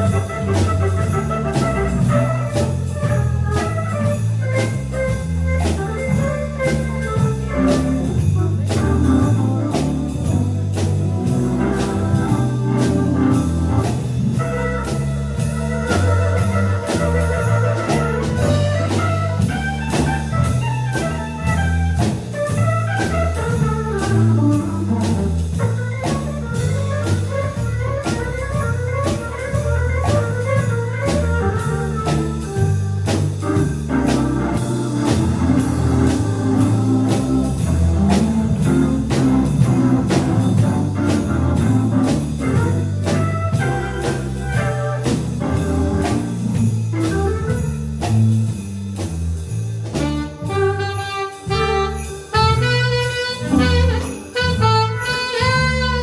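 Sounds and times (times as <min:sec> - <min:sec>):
organ-like keyboard runs: 0:00.0 - 0:48.6
bass line: 0:00.0 - 0:56.0
drum kit cymbals: 0:00.0 - 0:56.0.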